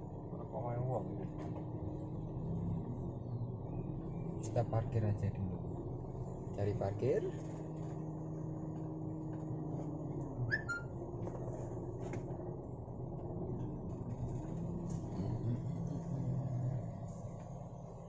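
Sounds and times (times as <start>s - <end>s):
van engine humming: 0.0s - 18.0s.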